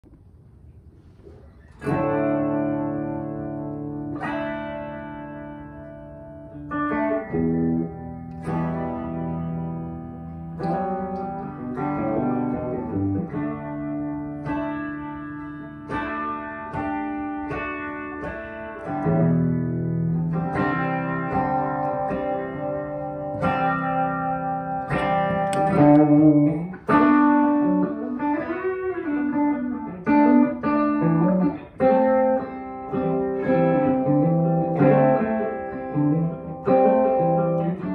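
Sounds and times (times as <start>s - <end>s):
electric guitar with effects: 0.0s - 37.9s.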